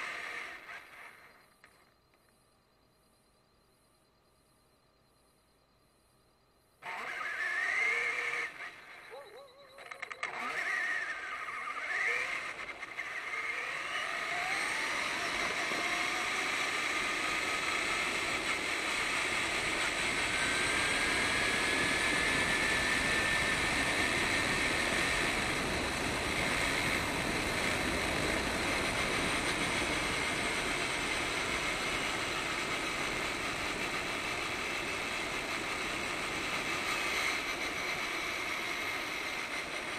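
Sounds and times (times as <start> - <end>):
radio-controlled car running: 0.0 - 1.9, 6.8 - 39.9.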